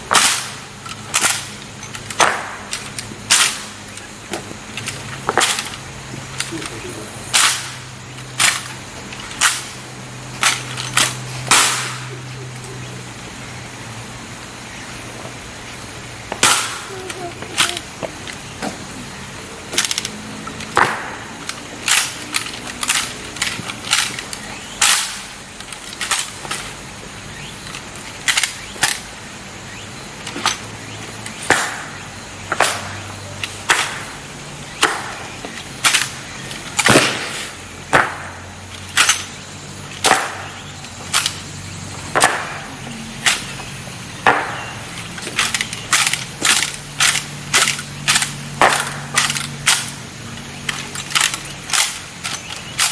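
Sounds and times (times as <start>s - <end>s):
rifles slapped and stamped: 0.1s - 9.8s, 10.4s - 12.7s, 16.3s - 18.9s, 19.7s - 26.8s, 30.2s - 34.2s, 34.8s - 39.4s, 40.0s - 52.9s.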